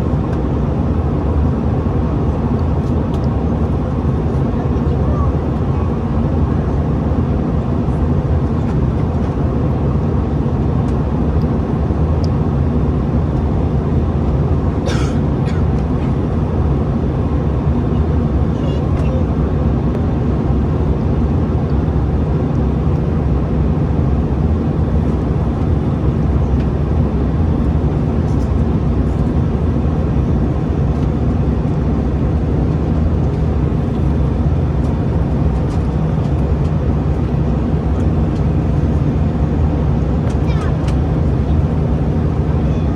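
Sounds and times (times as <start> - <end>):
aircraft cabin engine rumble: 0.0 - 42.9.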